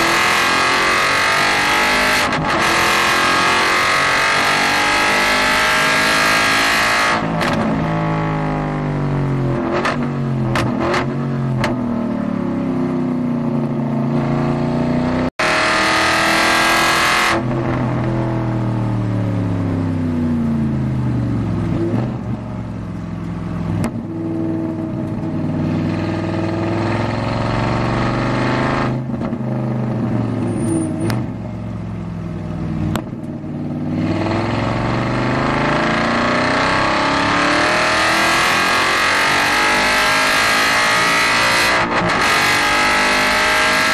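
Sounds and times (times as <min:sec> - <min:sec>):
race car engine downshifting and accelerating: 0:00.0 - 0:43.9.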